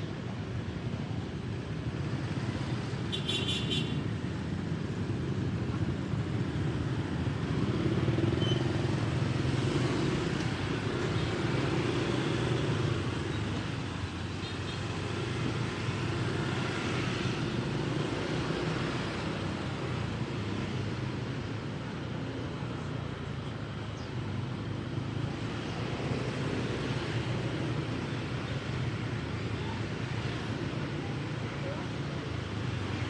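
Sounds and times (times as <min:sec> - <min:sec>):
drone of motorbikes and scooters: 0:00.0 - 0:33.0.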